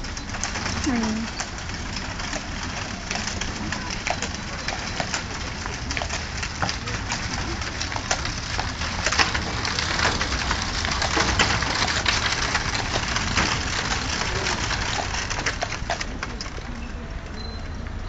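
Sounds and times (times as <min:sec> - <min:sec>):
carriage wheels rolling on pavement: 0:00.0 - 0:18.0
horse hooves clopping: 0:00.0 - 0:18.0.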